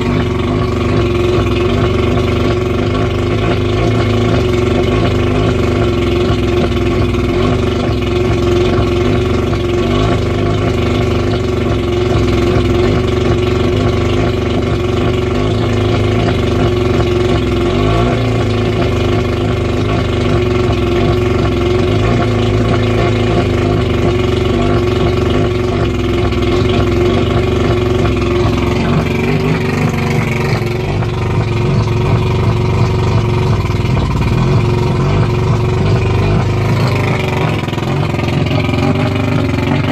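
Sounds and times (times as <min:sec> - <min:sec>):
outboard motor idling: 0:00.0 - 0:39.9.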